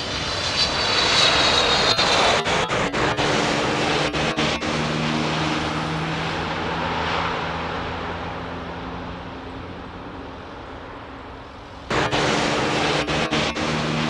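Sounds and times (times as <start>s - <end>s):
jet airliner passing: 0.0s - 10.2s, 11.9s - 14.0s.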